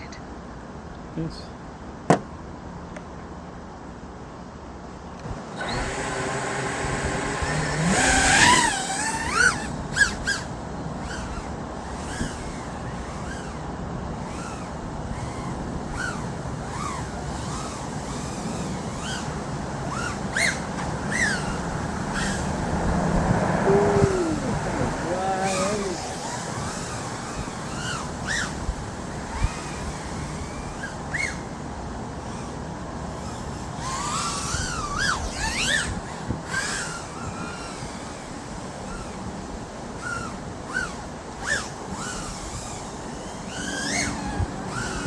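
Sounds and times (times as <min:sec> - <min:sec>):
drone motors whining: 0:05.6 - 0:45.0.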